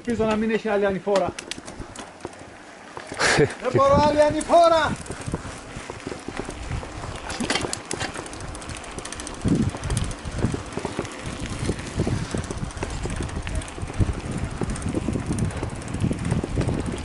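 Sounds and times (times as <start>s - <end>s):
tyres rolling on asphalt: 0.0s - 17.0s
short rattles: 1.2s - 17.0s
wind buffeting microphone: 1.5s - 17.0s.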